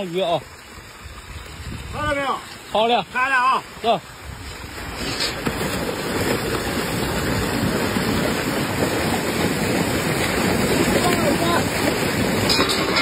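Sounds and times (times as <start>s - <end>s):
water pouring down metal chute: 0.0s - 13.0s.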